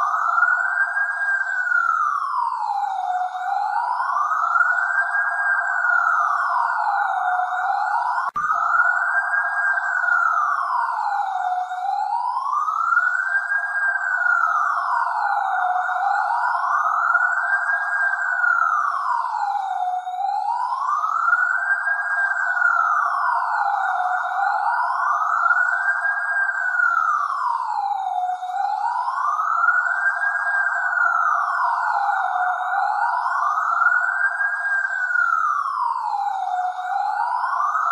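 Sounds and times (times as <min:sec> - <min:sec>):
police siren wailing: 0:00.0 - 0:37.9.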